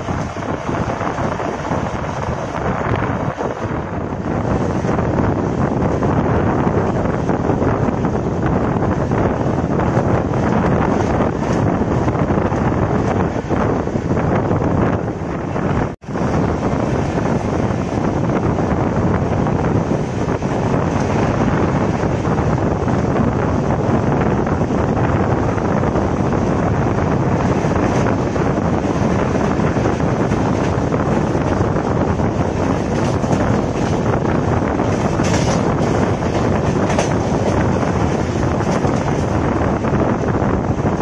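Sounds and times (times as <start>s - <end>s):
train coaches rumbling on track: 0.0s - 41.0s
wind buffeting microphone: 0.0s - 41.0s.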